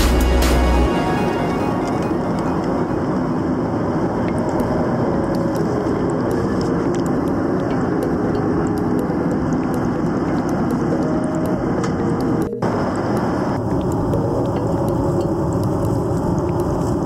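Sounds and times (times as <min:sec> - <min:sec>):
airliner cabin engine rush: 0:00.0 - 0:14.6.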